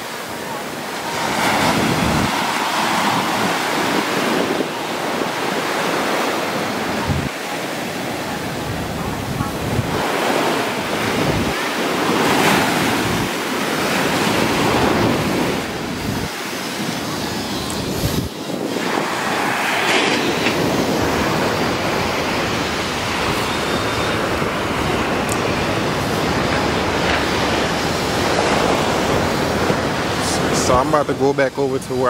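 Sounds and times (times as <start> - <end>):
waves washing up beach: 0.0 - 32.0
wind gusting on microphone: 0.0 - 32.0.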